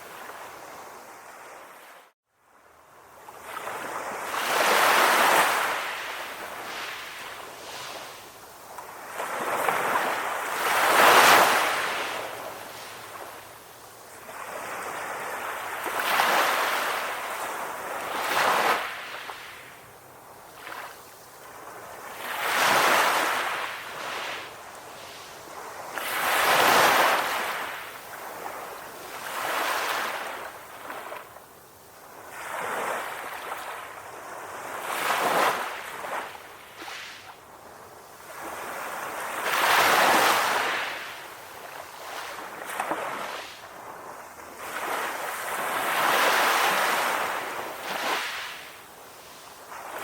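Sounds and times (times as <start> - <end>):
ocean waves washing up shore: 2.6 - 50.0.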